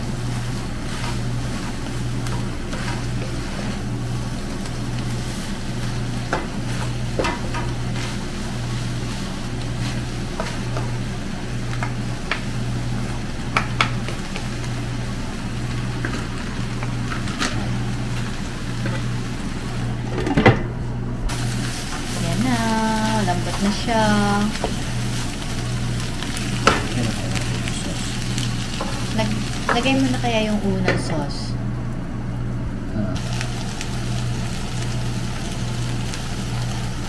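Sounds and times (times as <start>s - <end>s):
noodles sizzling in a pan: 0.0s - 20.2s, 21.3s - 31.4s, 33.2s - 37.0s
steady low hum: 0.0s - 37.0s.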